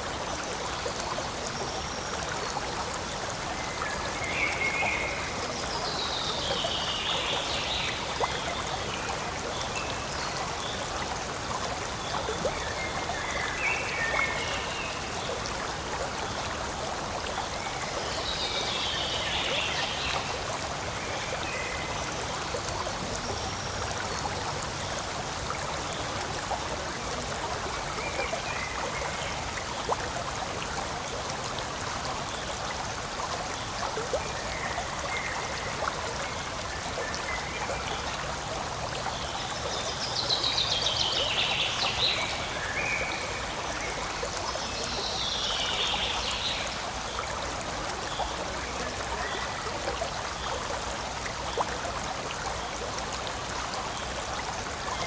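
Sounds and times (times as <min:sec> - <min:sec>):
stream running: 0:00.0 - 0:55.0.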